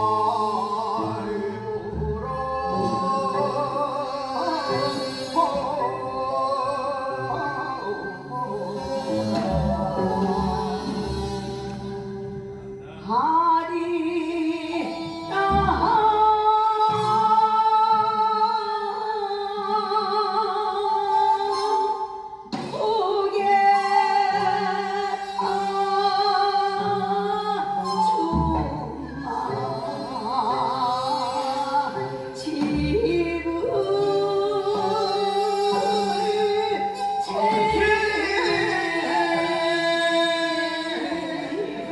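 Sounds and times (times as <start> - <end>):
woman singing folk song: 0.0 - 12.2, 13.0 - 41.9
instrumental accompaniment: 0.0 - 41.9.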